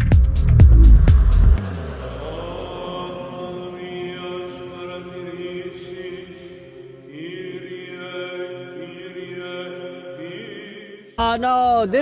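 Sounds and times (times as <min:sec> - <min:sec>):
slow chant-like drone music: 0:00.8 - 0:11.8.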